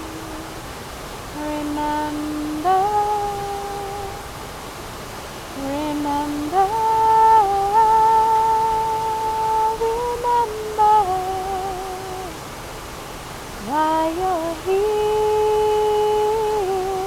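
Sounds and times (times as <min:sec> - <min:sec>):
woman humming a slow melody: 0:00.0 - 0:04.3, 0:05.6 - 0:12.4, 0:13.6 - 0:17.0
waterfall rushing: 0:00.0 - 0:17.0.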